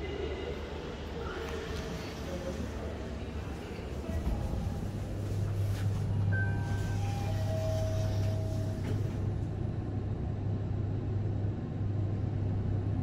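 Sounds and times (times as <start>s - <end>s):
lift humming and rumbling: 0.0s - 13.0s.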